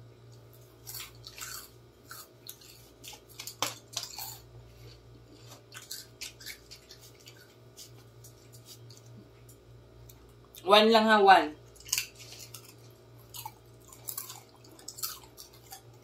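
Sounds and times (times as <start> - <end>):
steady low hum: 0.0 - 16.0
crunchy snack being eaten: 0.6 - 9.1, 11.7 - 16.0.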